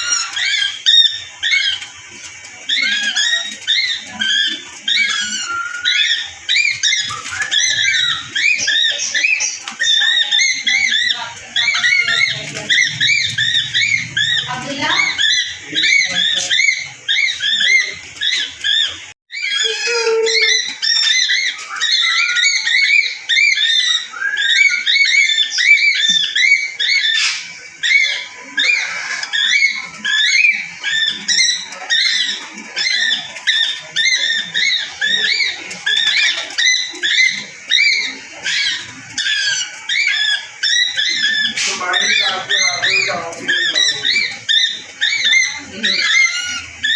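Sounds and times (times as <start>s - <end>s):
parrots chirping and chattering: 0.0s - 46.9s.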